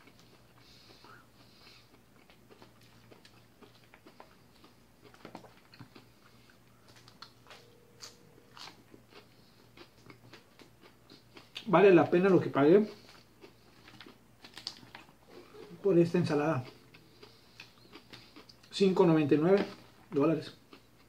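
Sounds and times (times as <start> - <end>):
crunchy chewing of salad: 0.0 - 21.0.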